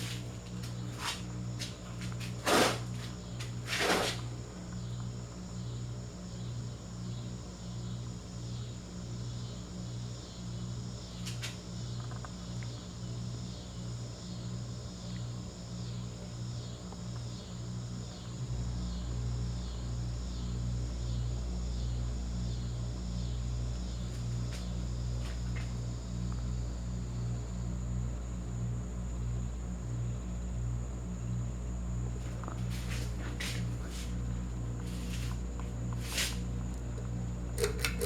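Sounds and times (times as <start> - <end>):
ceiling fan motor hum pulsing: 0.0 - 38.0.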